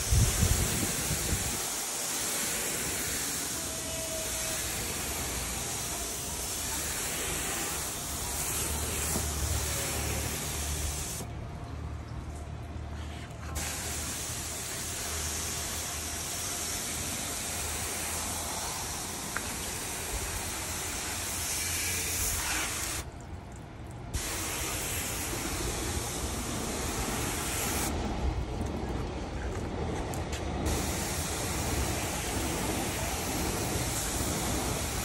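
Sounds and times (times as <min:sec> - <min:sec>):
hose water spraying on car: 0:00.0 - 0:11.3, 0:12.9 - 0:35.0.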